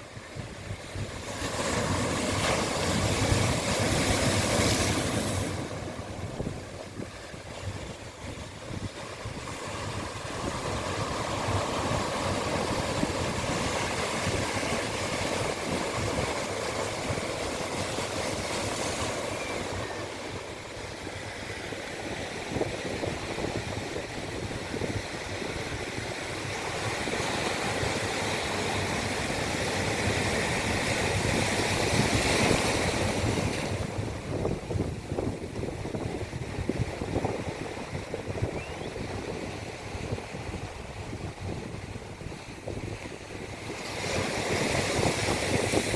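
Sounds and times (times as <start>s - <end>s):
wind on microphone: 0.0s - 45.9s
sea waves breaking: 0.2s - 45.9s.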